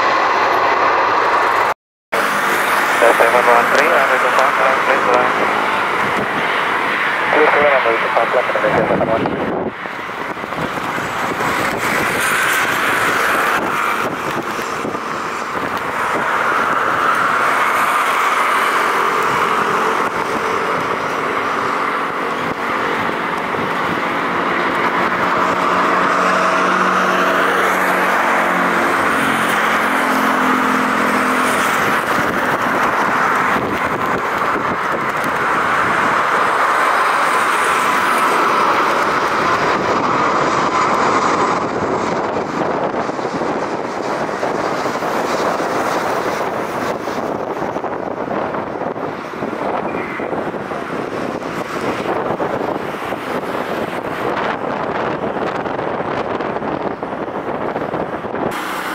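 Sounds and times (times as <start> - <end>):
engine tone hum dropping in pitch: 0.0 - 48.7
jet engines roaring: 0.0 - 58.9.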